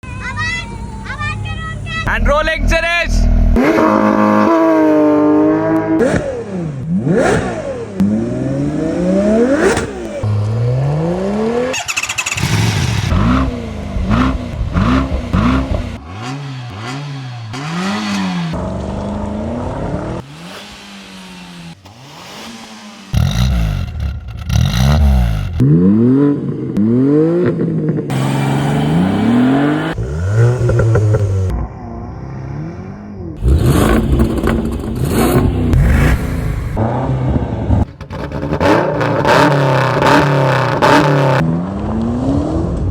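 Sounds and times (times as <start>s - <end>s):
car engines revving: 0.1s - 42.9s.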